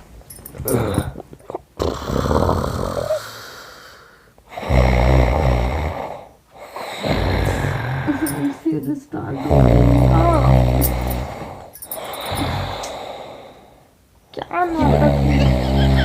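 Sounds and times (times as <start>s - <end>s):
man snoring: 0.6s - 1.2s, 1.8s - 8.5s, 9.4s - 13.7s, 14.7s - 16.0s.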